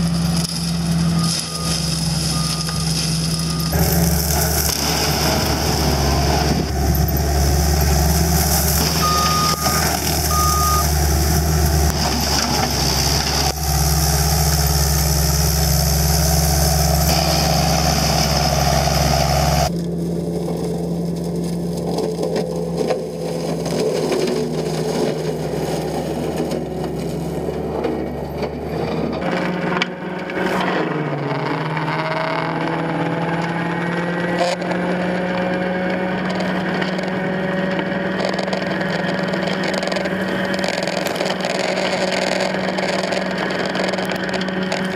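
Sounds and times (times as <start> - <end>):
mower head clearing brush: 0.0 - 32.3, 36.1 - 44.9
diesel engine running: 0.0 - 44.9.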